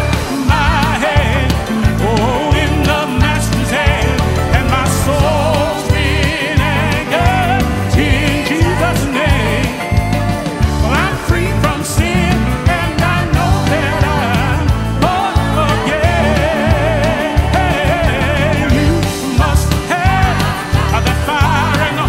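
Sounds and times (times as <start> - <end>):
backing singers: 0.0 - 22.0
band with bass and drums: 0.0 - 22.0
man singing lead: 0.0 - 22.0.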